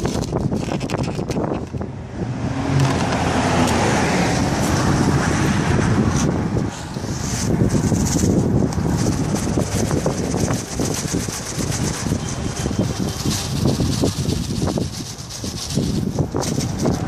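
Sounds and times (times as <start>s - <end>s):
low traffic rumble: 0.0s - 17.0s
vehicle passing by: 1.8s - 17.0s.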